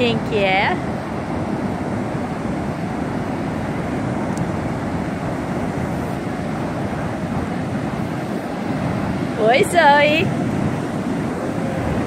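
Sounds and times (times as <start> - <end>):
ocean surf rushing: 0.0 - 12.0
wind on microphone: 0.0 - 12.0.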